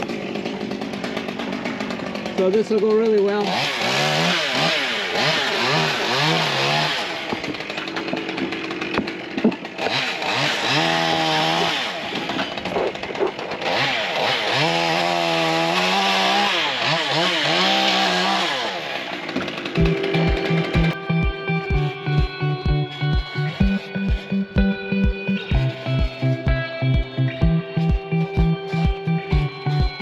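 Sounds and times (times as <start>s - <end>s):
chainsaw revving: 0.0s - 30.0s.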